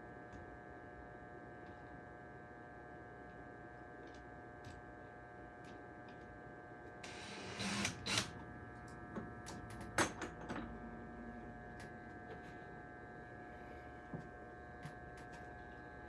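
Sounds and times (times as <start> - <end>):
steady low hum: 0.7 - 16.0.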